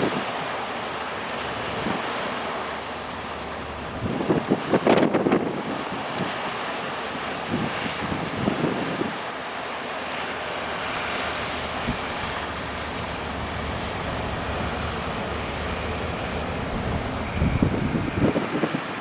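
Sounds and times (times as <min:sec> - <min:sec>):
surf rushing: 0:00.0 - 0:19.0
wind buffeting the microphone: 0:01.5 - 0:09.4, 0:10.2 - 0:19.0.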